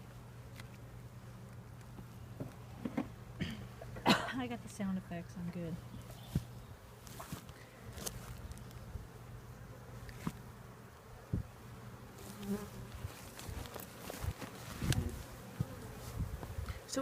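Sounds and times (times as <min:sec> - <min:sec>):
bees buzzing: 0:00.1 - 0:17.0.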